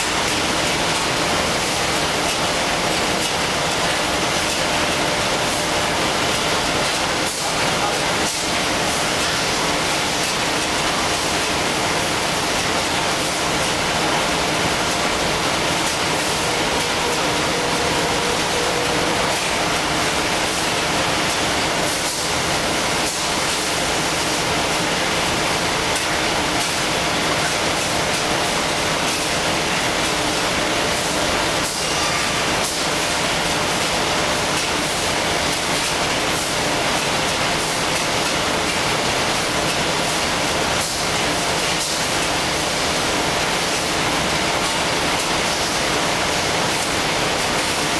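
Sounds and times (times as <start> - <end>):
production line machinery din: 0.0 - 47.9.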